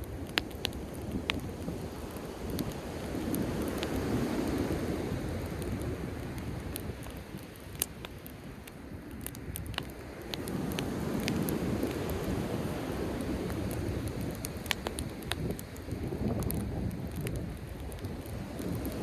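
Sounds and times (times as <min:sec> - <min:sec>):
bonfire crackling and popping: 0:00.0 - 0:19.0
waves on the shore: 0:00.3 - 0:19.0.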